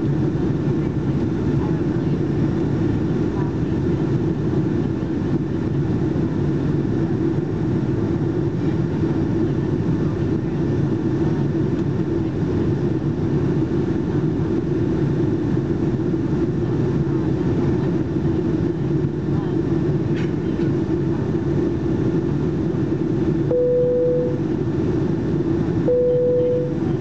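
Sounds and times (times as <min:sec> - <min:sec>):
constant low-pitched hum: 0:00.0 - 0:27.0
jet engine hum: 0:00.0 - 0:27.0.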